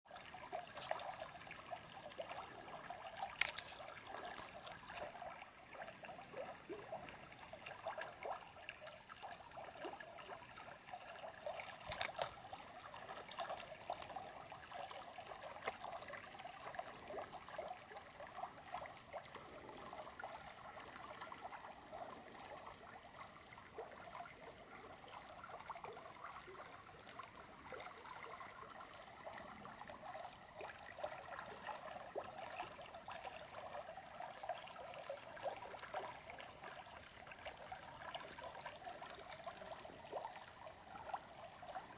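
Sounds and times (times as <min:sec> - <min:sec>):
creek water babbling: 0:00.1 - 0:41.9.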